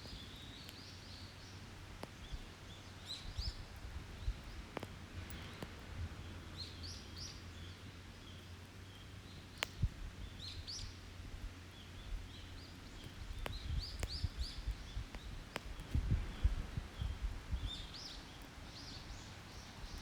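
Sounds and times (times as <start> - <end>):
campfire crackling: 0.0 - 20.0
songbird singing: 0.0 - 20.0.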